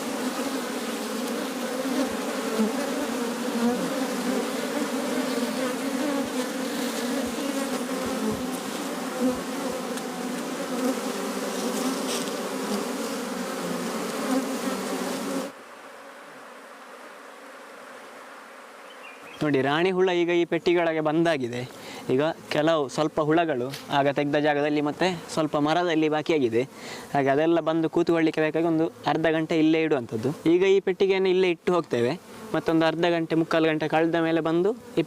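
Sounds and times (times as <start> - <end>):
swarm of bees buzzing: 0.0 - 20.0, 20.6 - 27.2, 32.0 - 35.0.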